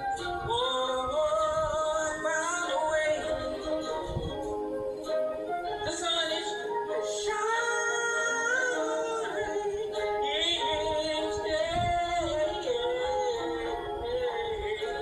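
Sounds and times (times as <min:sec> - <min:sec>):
solo voice singing gospel: 0:00.0 - 0:15.0.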